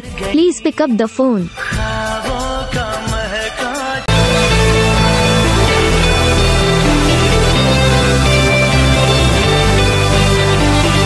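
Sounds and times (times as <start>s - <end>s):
background music with deep bass: 1.5s - 11.0s.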